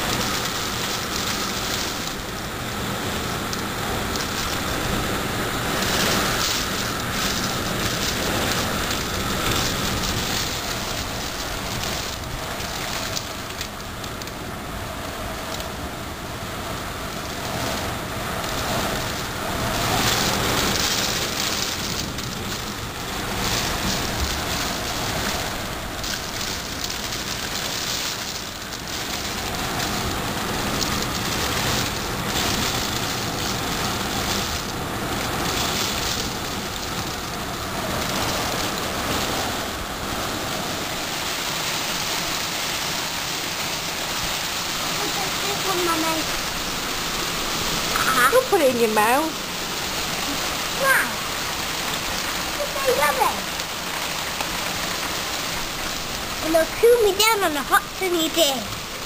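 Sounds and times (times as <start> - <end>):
gusting wind: 0.0 - 59.0
hailstones clattering: 0.0 - 59.0.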